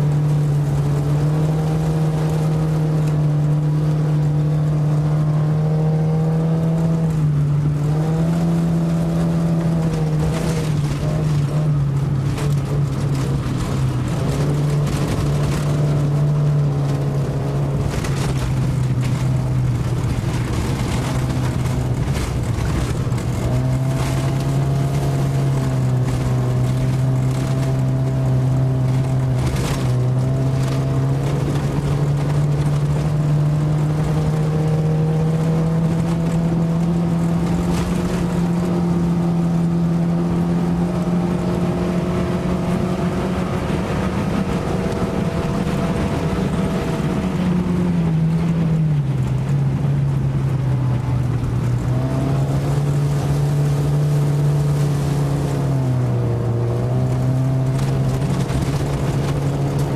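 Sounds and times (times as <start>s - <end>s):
race car engine pulling hard: 0.0s - 59.9s.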